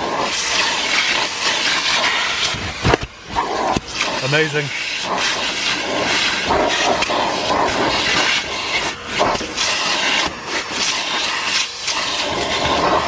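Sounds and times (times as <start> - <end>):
debris rattling up hose: 0.0 - 13.0
vacuum cleaner suction hiss: 0.0 - 13.0.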